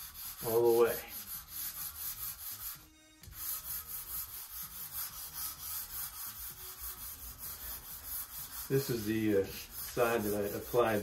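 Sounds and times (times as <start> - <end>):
sandpaper rubbing on wood: 0.0 - 11.0.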